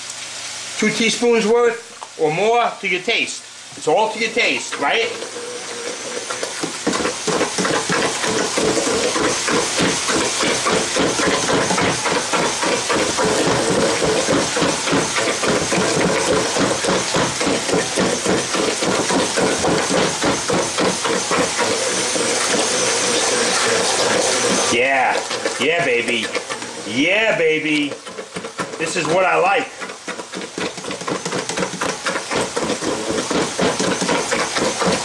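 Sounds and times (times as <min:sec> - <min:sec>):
blade knocking and churning mash: 0:03.8 - 0:35.0
stick blender motor humming: 0:03.8 - 0:35.0.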